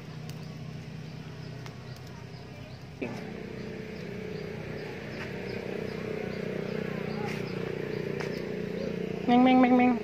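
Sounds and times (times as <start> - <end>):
burning palm fronds crackling: 0.0 - 10.0
engine-like hum: 0.0 - 10.0.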